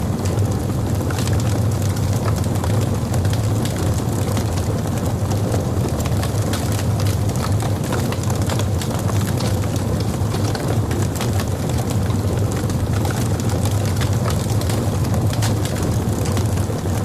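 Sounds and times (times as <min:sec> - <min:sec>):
fire rumbling in fireplace: 0:00.0 - 0:17.0
wood crackling and popping: 0:00.0 - 0:17.0.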